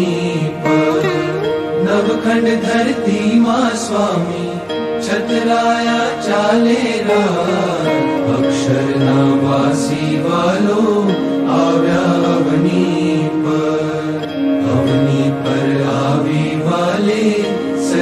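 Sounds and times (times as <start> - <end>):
person chanting a hymn: 0.0 - 18.0
steady held accompaniment: 0.0 - 18.0.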